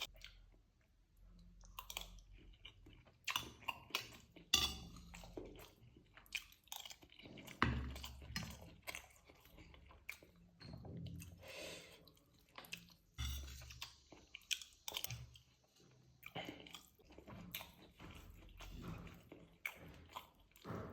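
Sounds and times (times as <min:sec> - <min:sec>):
person chewing crunchy food: 0:00.0 - 0:20.9.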